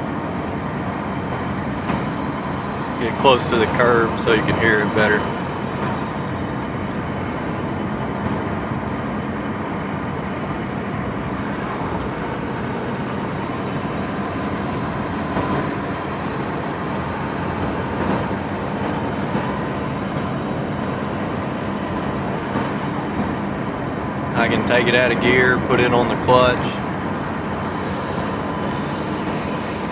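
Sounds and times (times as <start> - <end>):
car whine while driving: 0.0 - 29.9
road and tyre noise: 0.0 - 29.9.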